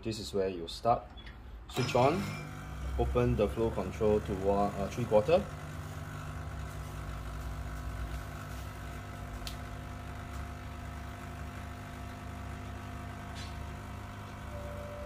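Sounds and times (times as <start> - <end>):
espresso machine pump humming: 1.8 - 15.0.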